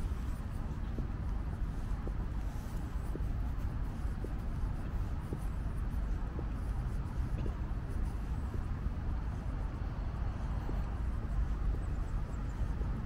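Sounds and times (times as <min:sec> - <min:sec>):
footsteps ticking: 0:00.0 - 0:13.0
steady low rumble: 0:00.0 - 0:13.0.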